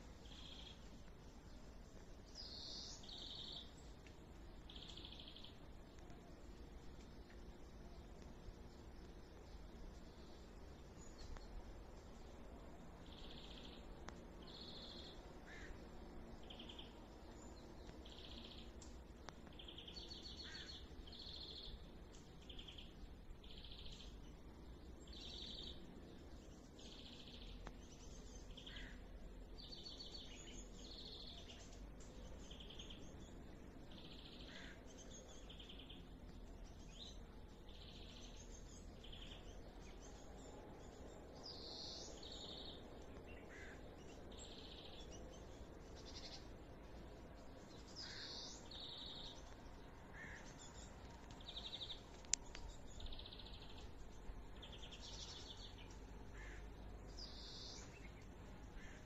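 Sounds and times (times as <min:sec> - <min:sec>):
birds chirping faintly: 0:00.0 - 0:59.0.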